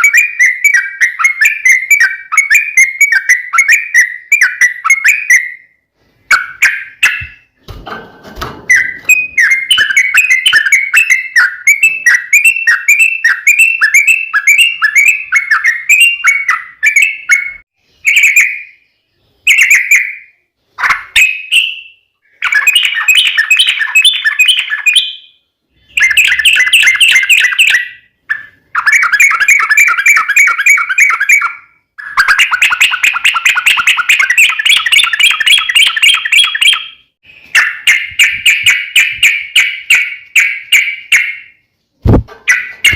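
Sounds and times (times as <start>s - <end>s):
bird chattering song: 0.0s - 5.7s, 6.3s - 7.6s, 8.7s - 42.9s.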